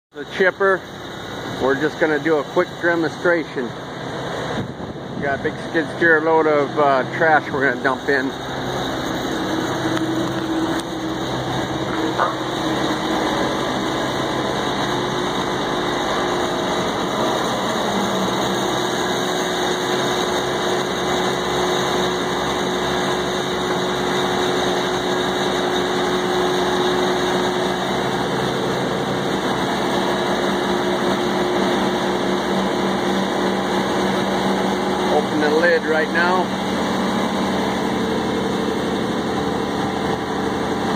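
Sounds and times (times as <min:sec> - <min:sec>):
wood grinder engine idling: 0:00.2 - 0:04.6, 0:05.2 - 0:40.9.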